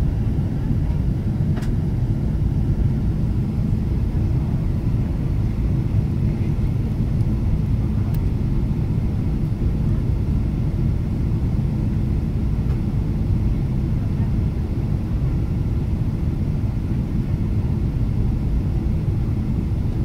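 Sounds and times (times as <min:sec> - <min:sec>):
jet cabin engine rumble: 0:00.0 - 0:20.0.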